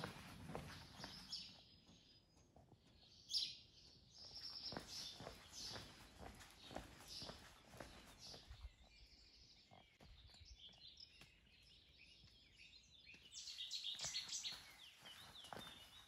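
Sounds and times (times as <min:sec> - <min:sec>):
footsteps on stony path: 0:00.0 - 0:02.6, 0:04.2 - 0:09.0, 0:09.6 - 0:16.0
small birds chirping: 0:00.0 - 0:16.0.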